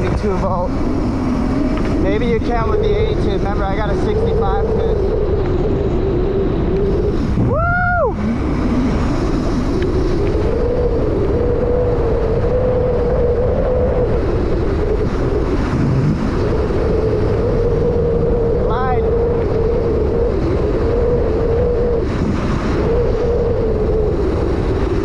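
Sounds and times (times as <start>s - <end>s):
wind buffeting on microphone: 0.0s - 25.0s.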